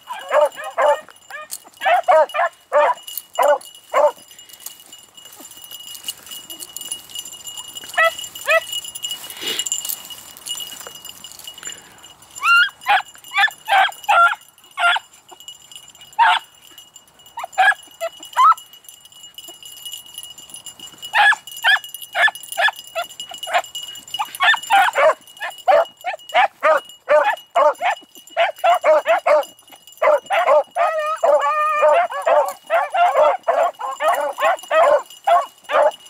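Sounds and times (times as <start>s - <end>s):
dogs barking and yelping: 0.0s - 4.6s, 5.2s - 10.0s, 12.4s - 19.9s, 20.8s - 36.0s.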